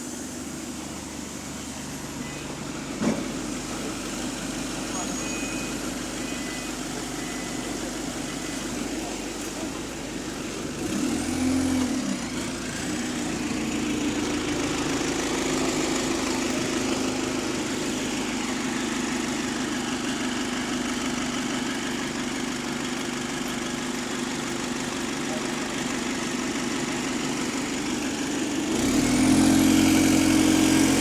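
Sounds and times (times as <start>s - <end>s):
bus diesel engine droning: 0.0s - 31.0s.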